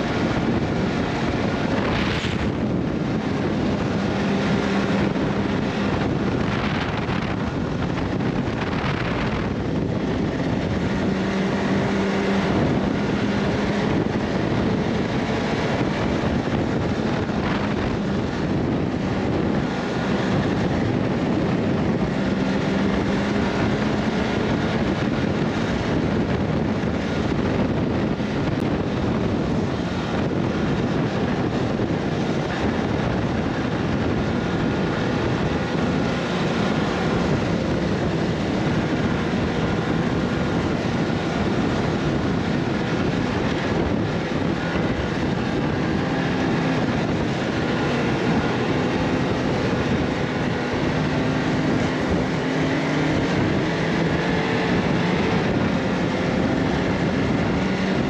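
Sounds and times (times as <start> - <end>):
low engine drone: 0.0 - 58.0
vehicle running: 0.0 - 58.0.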